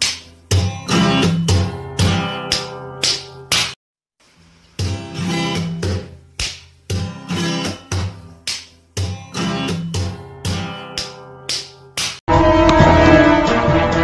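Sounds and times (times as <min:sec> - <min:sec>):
acoustic guitar strumming: 0:00.0 - 0:03.7, 0:04.8 - 0:14.0.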